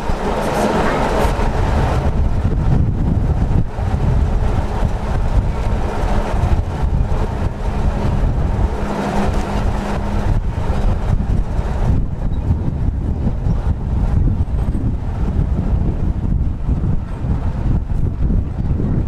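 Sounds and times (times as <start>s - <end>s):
steady hum: 0.0s - 19.0s
tramcar rumble: 0.0s - 19.0s
wind buffeting microphone: 0.0s - 19.0s.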